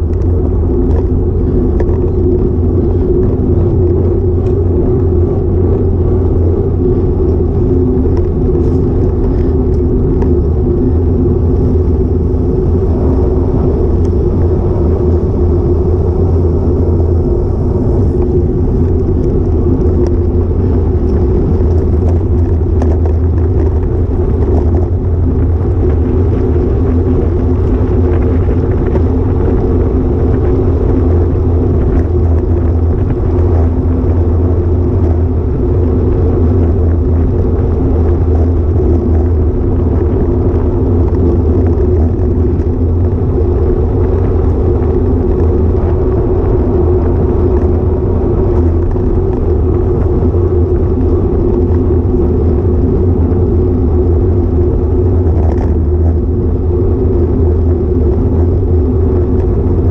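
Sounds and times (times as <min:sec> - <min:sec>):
bike tyre road noise on tarmac: 0:00.0 - 0:59.9
constant low hum: 0:00.0 - 0:59.9
wind buffeting microphone: 0:00.0 - 0:59.9.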